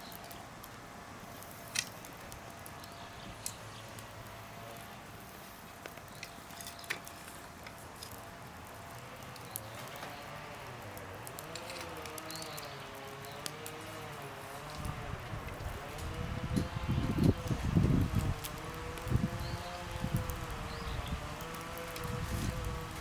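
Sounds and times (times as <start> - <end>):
burning wood popping: 0.0 - 23.0
campfire crackling: 0.0 - 23.0.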